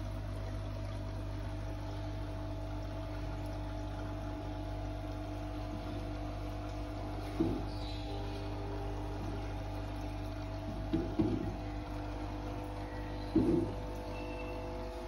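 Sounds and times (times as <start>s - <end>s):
aquarium pump humming: 0.0s - 15.0s
water bubbling: 0.0s - 15.0s.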